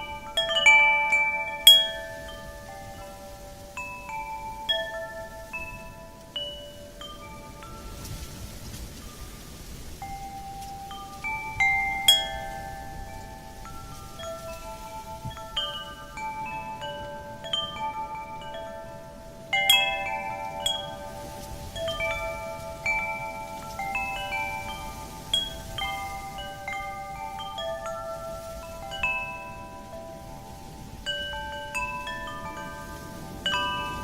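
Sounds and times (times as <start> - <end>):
faint wind: 0.0 - 34.0
wind chimes ringing: 0.0 - 34.0.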